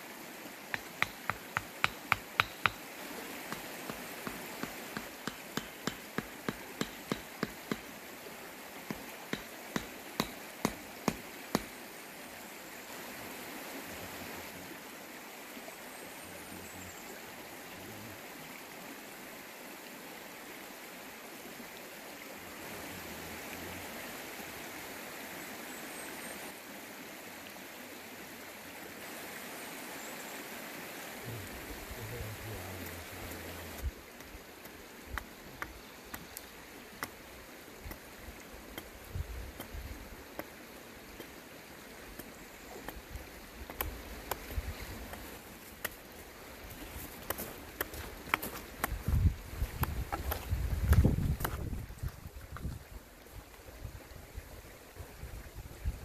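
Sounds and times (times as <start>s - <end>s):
creek rushing: 0.0s - 56.0s.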